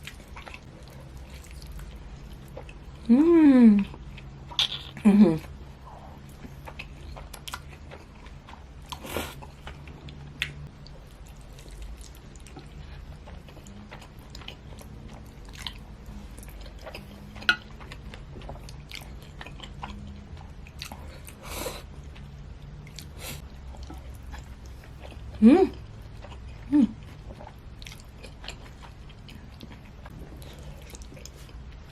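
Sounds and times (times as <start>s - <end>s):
person chewing and smacking: 0.0s - 3.1s, 3.8s - 31.9s
steady low hum: 0.0s - 31.9s.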